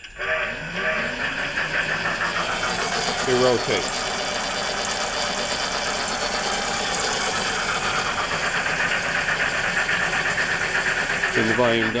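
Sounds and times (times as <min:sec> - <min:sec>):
electric motor drive running: 0:00.0 - 0:12.0
engine sound from speaker: 0:00.0 - 0:12.0.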